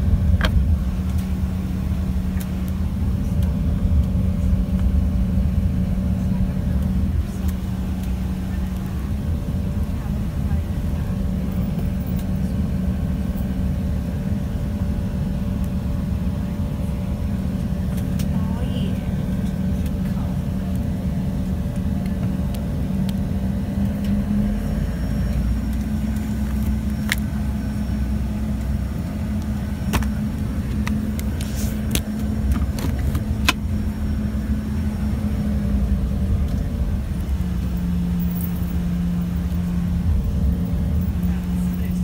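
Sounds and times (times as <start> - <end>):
aircraft engines droning: 0.0 - 42.0.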